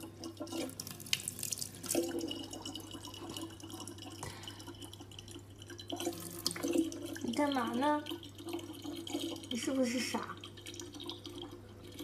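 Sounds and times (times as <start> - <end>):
faint drips and splashes: 0.0 - 12.0
tap water trickling into jug: 0.0 - 12.0.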